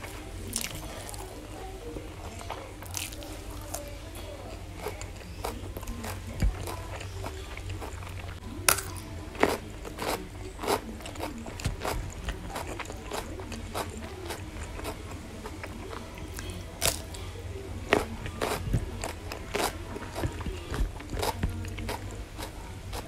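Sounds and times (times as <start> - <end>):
chewing and crunching vegetables: 0.0 - 23.0.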